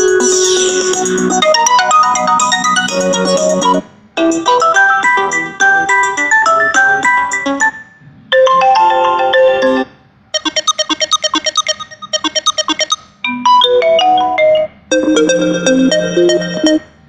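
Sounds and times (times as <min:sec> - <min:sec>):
electronic ringtone tunes: 0:00.0 - 0:17.0.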